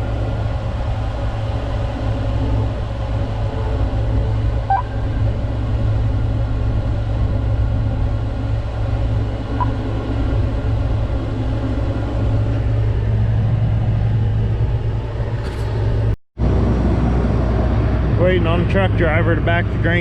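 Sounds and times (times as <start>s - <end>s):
combine engine droning: 0.0s - 20.0s.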